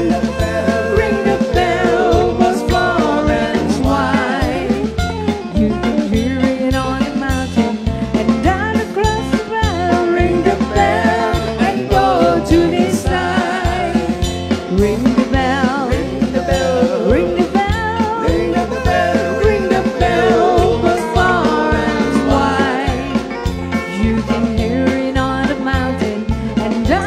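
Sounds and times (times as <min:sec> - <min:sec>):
fiddle: 0:00.0 - 0:14.2, 0:16.3 - 0:27.0
person singing: 0:00.0 - 0:14.2, 0:14.9 - 0:27.0
drum kit beat: 0:00.0 - 0:27.0
electric bass guitar: 0:00.0 - 0:27.0.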